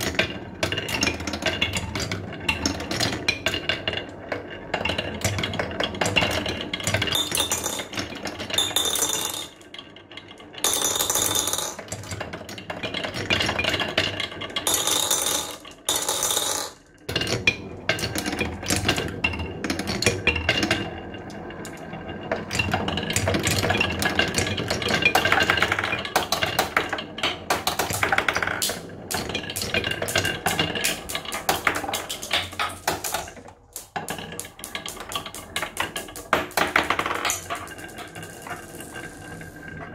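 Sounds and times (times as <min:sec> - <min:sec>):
marbles rattling down wooden tracks: 0:00.0 - 0:39.9.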